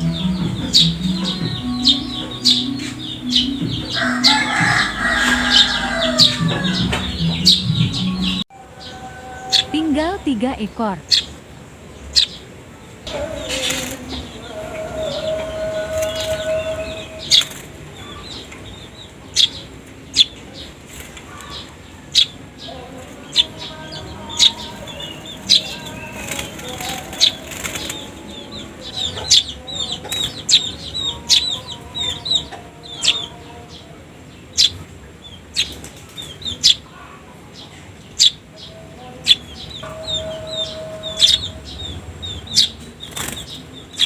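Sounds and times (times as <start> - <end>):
sparrow fledglings chirping: 0.0 - 11.4, 12.0 - 12.5, 13.1 - 44.0.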